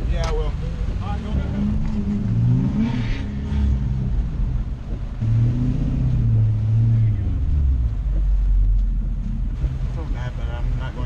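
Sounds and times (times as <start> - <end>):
truck engine hum from inside cab: 0.0 - 11.0.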